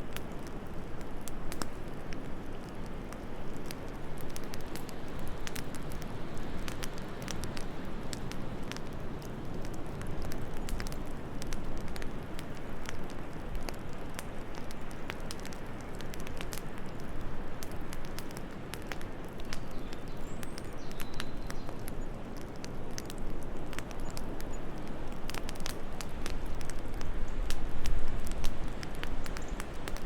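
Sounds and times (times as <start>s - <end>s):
low wind: 0.0s - 30.0s
wood fire crackling and popping: 0.0s - 30.0s.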